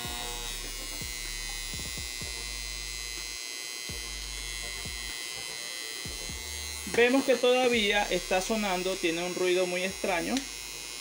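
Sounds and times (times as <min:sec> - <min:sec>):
electrical contactor buzzing: 0:00.0 - 0:11.0.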